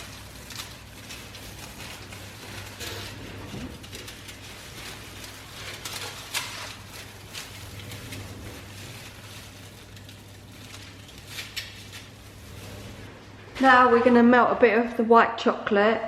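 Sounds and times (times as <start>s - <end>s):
cling film crinkling: 0.0s - 13.1s.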